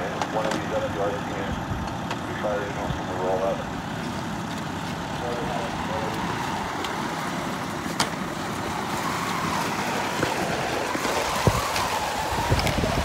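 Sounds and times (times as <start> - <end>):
fire engine motor running: 0.0 - 13.0.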